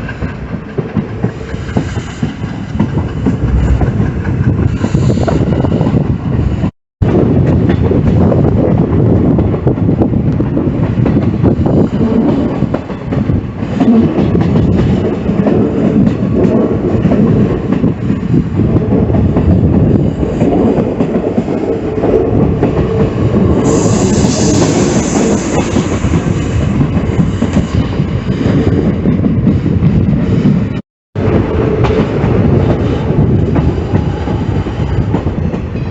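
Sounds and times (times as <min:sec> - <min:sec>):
train rumbling on rails: 0:00.0 - 0:35.9.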